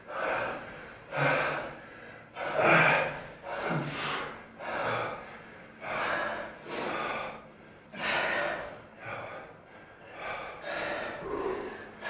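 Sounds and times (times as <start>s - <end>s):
man breathing hard with grunts: 0.0s - 12.0s.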